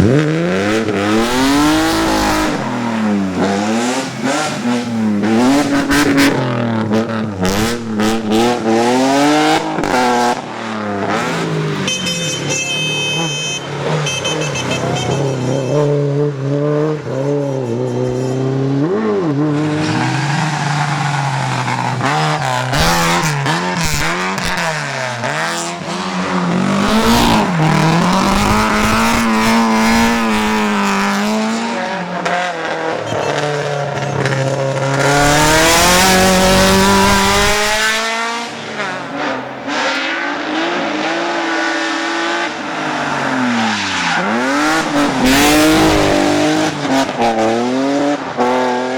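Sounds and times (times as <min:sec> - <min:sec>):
tyres squealing and skidding: 0:00.0 - 0:07.7, 0:10.8 - 0:48.1
rally car engine revving: 0:00.0 - 0:48.9.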